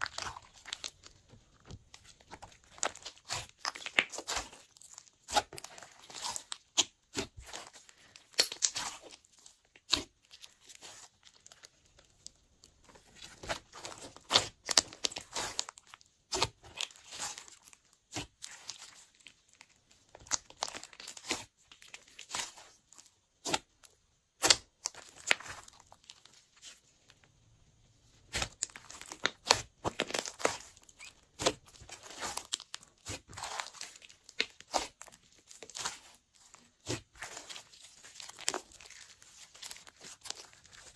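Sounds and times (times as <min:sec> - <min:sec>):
slime squishing with sticky clicks: 0:00.0 - 0:27.5, 0:28.1 - 0:40.9.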